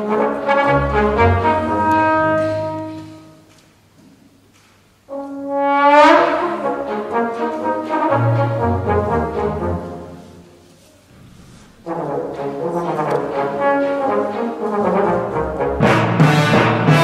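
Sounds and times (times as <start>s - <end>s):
orchestral brass playing: 0.0s - 3.5s, 5.1s - 17.0s.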